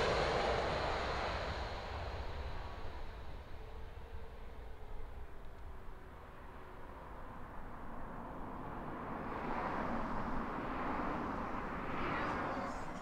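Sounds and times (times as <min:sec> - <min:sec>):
jet engine roar: 0:00.0 - 0:08.1, 0:08.7 - 0:13.0.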